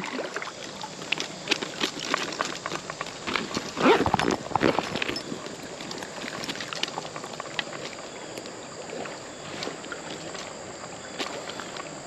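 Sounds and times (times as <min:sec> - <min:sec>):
creek water running: 0:00.0 - 0:12.0
fish splashing in water: 0:00.0 - 0:12.0.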